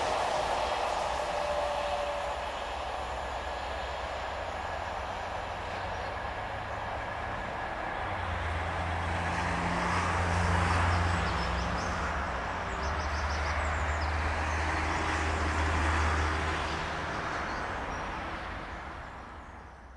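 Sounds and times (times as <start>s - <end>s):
train rumble and hum: 0.0s - 19.9s.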